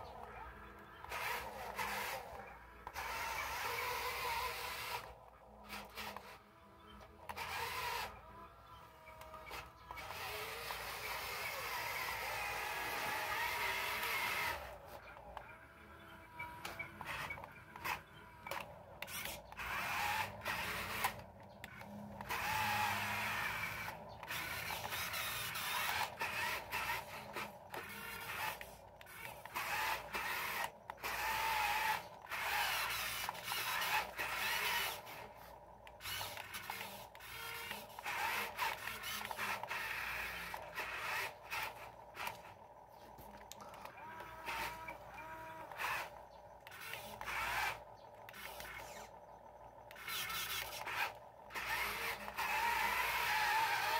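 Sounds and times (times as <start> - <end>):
small electric motors whirring: 0.0 - 53.9.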